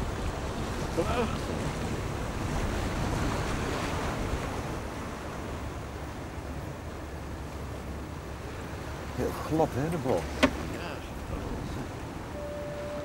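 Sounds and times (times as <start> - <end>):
water splashing along a hull: 0.0 - 13.0.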